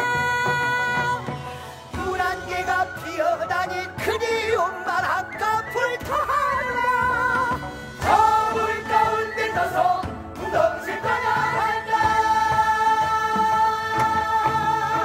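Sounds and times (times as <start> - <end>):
chorus singing: 0.0 - 15.0
musical accompaniment: 0.0 - 15.0.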